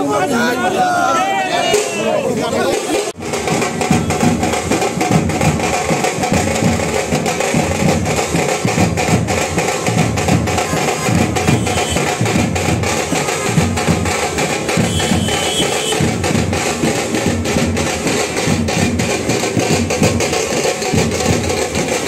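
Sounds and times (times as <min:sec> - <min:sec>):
music with busy drumming: 0:01.6 - 0:22.0.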